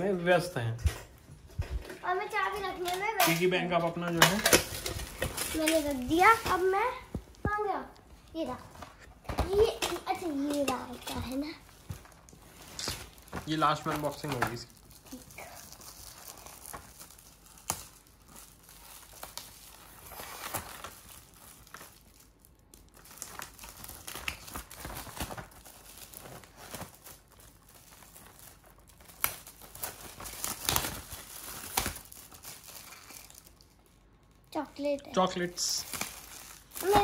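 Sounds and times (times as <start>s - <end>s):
wrapping paper tearing and crinkling: 1.8s - 37.0s.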